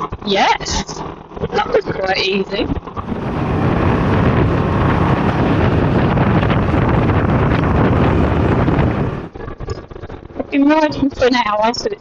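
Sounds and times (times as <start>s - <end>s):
vehicle engine and road noise: 0.0s - 12.0s
wind noise on microphone: 0.0s - 12.0s.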